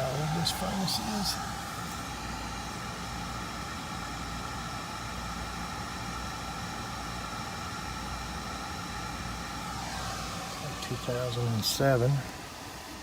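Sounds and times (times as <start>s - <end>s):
air conditioning hum: 0.0s - 13.0s
whine of fixed tones: 0.0s - 13.0s.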